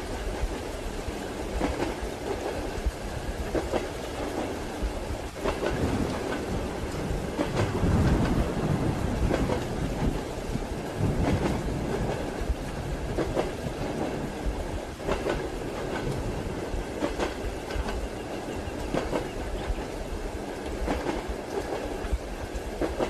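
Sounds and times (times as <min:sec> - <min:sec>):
train carriage rumble: 0:00.0 - 0:23.0
train wheels clicking over joints: 0:00.0 - 0:23.0.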